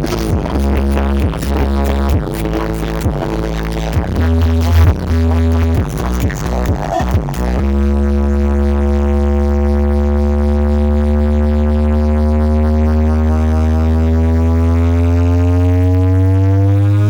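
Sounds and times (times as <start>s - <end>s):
deep synth bass tone: 0.0s - 17.0s.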